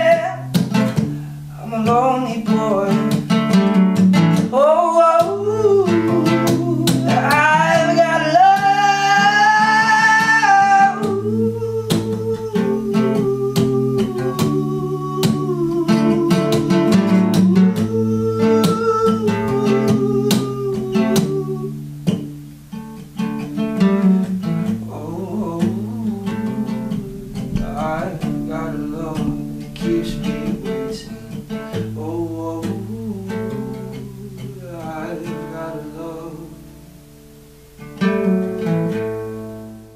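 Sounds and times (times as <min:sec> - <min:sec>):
man singing: 0:00.0 - 0:22.3, 0:24.4 - 0:36.8
acoustic guitar strumming: 0:00.0 - 0:39.9.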